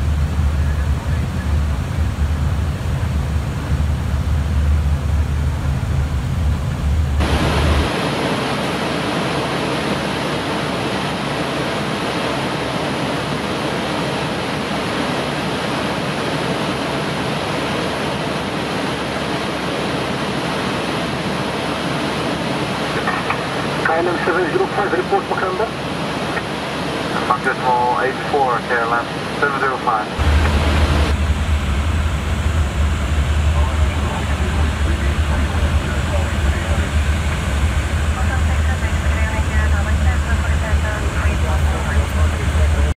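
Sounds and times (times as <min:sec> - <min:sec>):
airliner cockpit rushing noise: 0:00.0 - 0:42.9.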